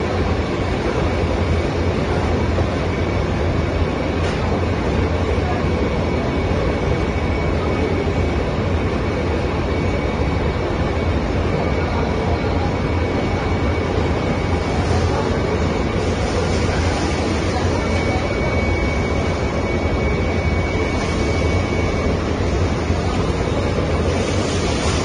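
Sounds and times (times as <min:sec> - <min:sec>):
faint high whine: 0:00.0 - 0:25.0
industrial machine hum: 0:00.0 - 0:25.0.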